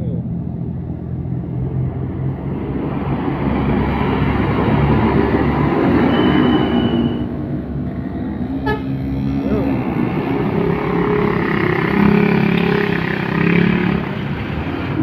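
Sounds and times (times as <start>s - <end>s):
heavy bus engine passing: 0.0s - 15.0s.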